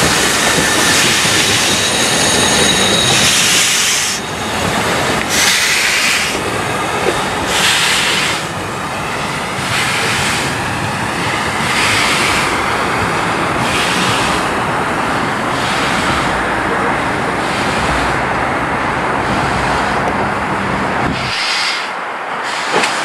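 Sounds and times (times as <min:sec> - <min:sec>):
hissing rail noise: 0:00.0 - 0:23.0
train rumbling on rails: 0:00.0 - 0:23.0.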